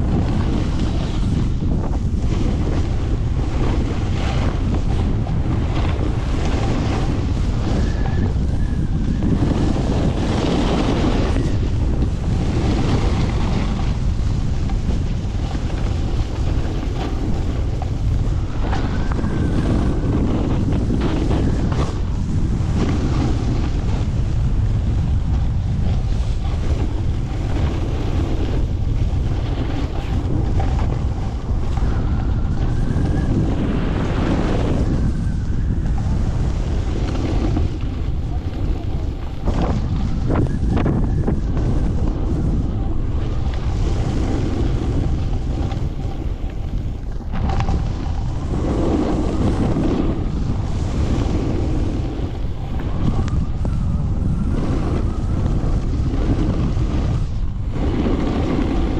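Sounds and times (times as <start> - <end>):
ski edges scraping snow: 0.0 - 35.2, 35.9 - 53.4, 54.5 - 58.9
wind buffeting microphone: 0.0 - 58.9.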